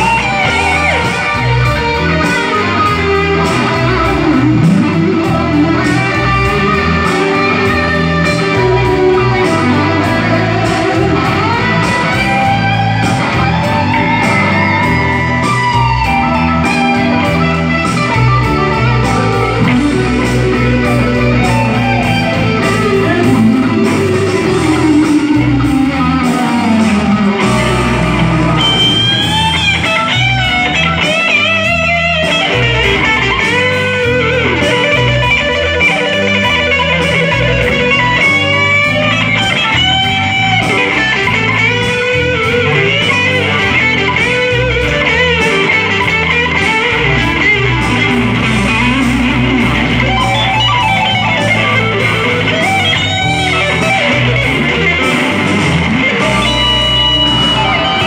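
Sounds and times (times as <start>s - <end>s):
lead electric guitar solo: 0.0s - 58.0s
rhythm electric guitar: 0.0s - 58.0s.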